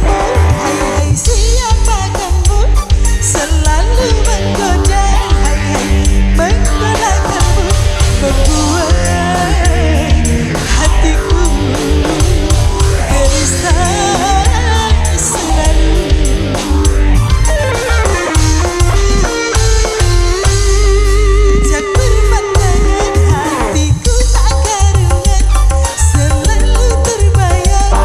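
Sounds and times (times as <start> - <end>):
heavy bass: 0.0 - 28.0
live band music: 0.0 - 28.0
steady drum beat: 0.0 - 28.0.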